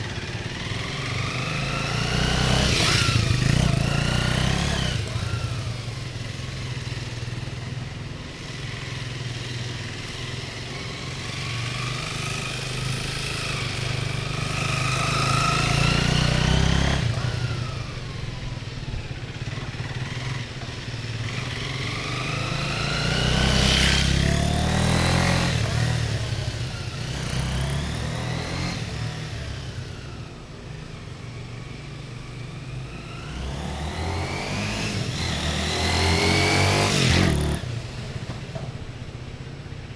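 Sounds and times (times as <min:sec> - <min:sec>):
motorcycle engine accelerating: 0:00.0 - 0:30.4, 0:32.3 - 0:38.5.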